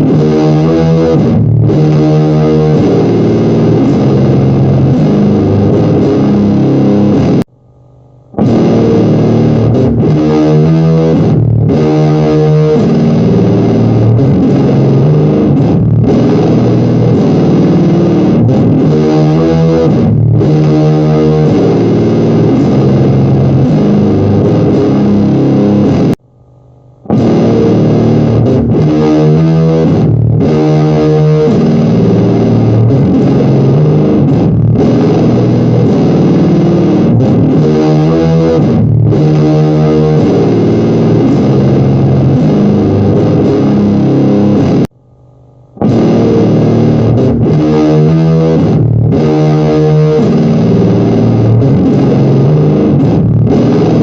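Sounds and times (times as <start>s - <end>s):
rock music with distorted guitar: 0.0s - 7.6s, 8.3s - 26.3s, 27.0s - 45.0s, 45.7s - 54.0s.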